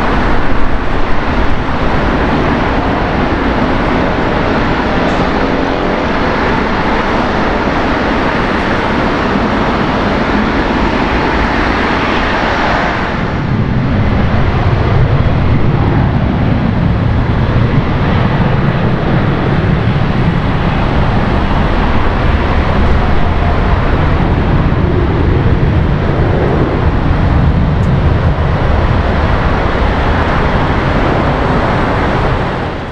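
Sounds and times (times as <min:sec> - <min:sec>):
jet engines roaring at takeoff: 0:00.0 - 0:32.9.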